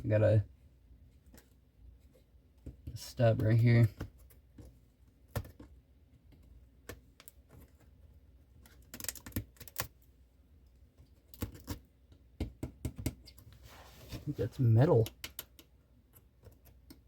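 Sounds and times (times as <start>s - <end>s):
light clicks and taps on wall: 1.2s - 10.0s, 10.6s - 13.6s, 14.9s - 17.0s.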